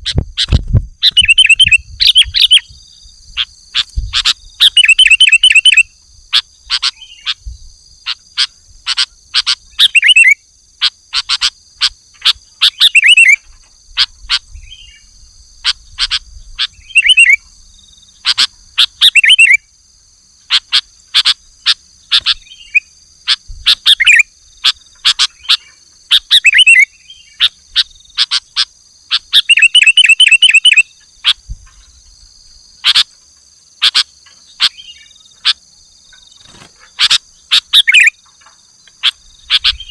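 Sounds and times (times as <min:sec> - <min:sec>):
bird calling loudly: 0:00.0 - 0:02.7, 0:03.4 - 0:17.5, 0:18.2 - 0:19.6, 0:20.4 - 0:31.4, 0:32.8 - 0:33.2, 0:33.8 - 0:35.7, 0:36.4 - 0:39.9.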